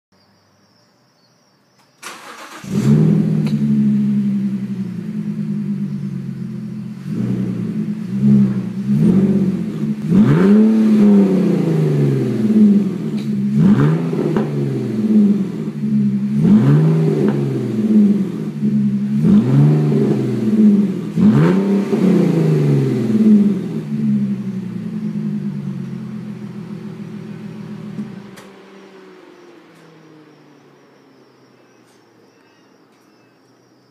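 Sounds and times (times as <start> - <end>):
car engine idling and revving: 2.0 - 33.0.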